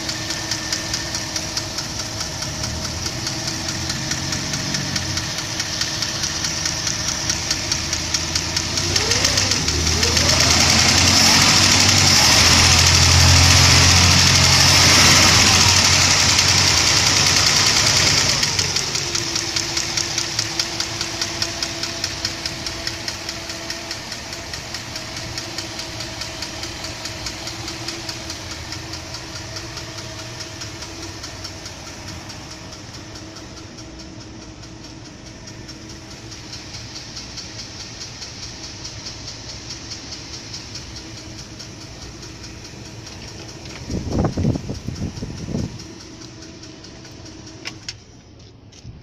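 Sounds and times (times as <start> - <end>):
loud uneven engine burst: 0.0 - 48.0
car engine idling: 0.0 - 49.0.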